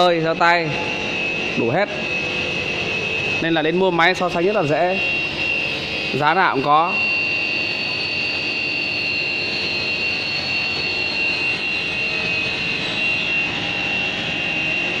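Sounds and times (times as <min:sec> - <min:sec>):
machinery whine: 0:00.0 - 0:15.0.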